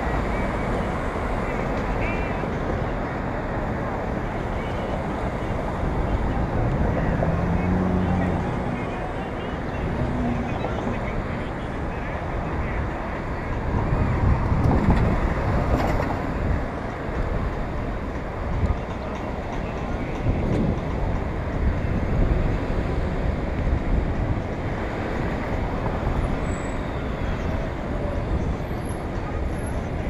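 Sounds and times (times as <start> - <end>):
passing cars rumbling: 0.0 - 30.0
wind rumble on microphone: 0.0 - 30.0.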